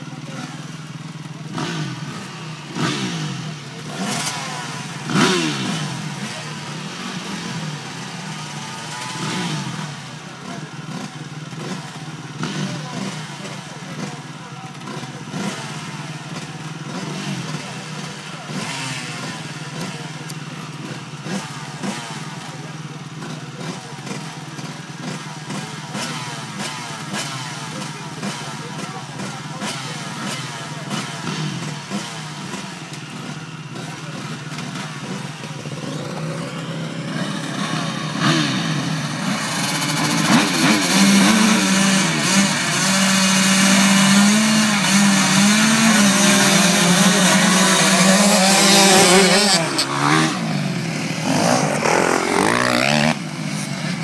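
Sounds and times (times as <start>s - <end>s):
dirt bikes idling and revving: 0.0s - 54.0s.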